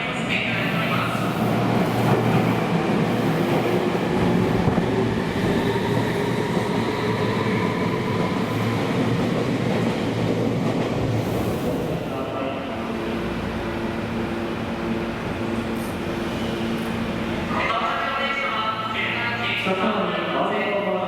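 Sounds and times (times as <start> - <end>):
train wheel and rail rumble: 0.0 - 21.0.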